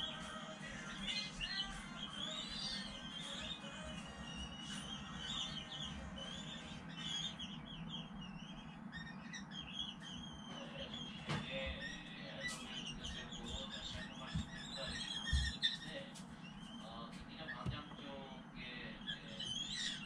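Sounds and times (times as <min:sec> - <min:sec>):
nestlings squeaky begging calls: 0:00.0 - 0:17.9, 0:18.9 - 0:20.0.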